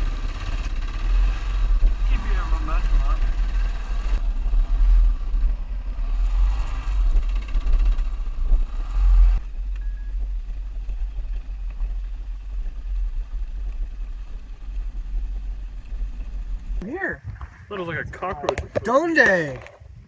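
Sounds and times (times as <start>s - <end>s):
motorcycle engine and road noise: 0.0s - 20.0s
wind rumbling on microphone: 0.8s - 20.0s.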